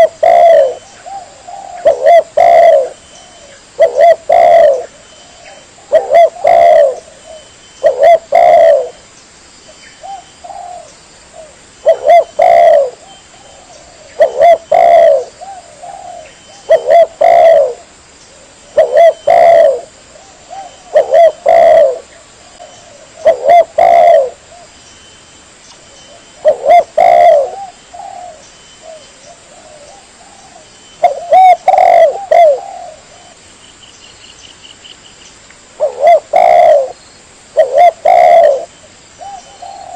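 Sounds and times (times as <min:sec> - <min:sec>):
dove cooing: 0:00.0 - 0:09.0, 0:10.0 - 0:24.7, 0:26.1 - 0:33.4, 0:35.8 - 0:37.0, 0:37.6 - 0:39.9.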